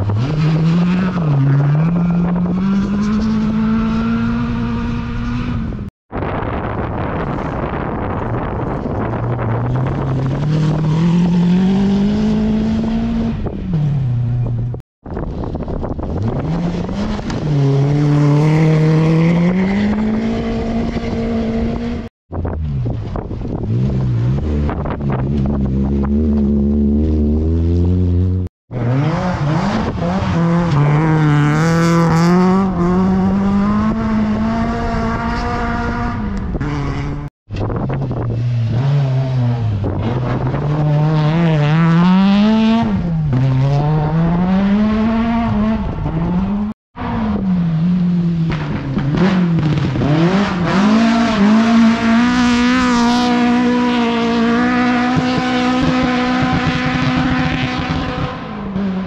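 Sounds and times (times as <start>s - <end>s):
rally car engine revving: 0.0s - 6.3s, 7.2s - 59.0s.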